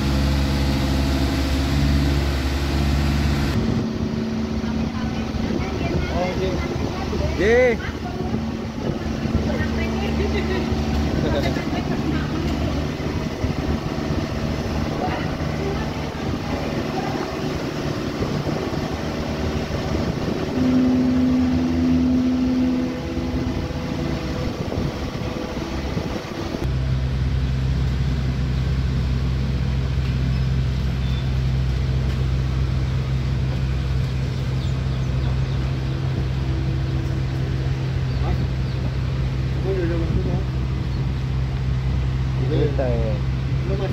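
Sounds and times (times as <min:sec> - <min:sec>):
deep engine drone: 0:00.0 - 0:43.9
diesel excavator engine running: 0:00.0 - 0:43.9
loud steady whine: 0:00.0 - 0:43.9.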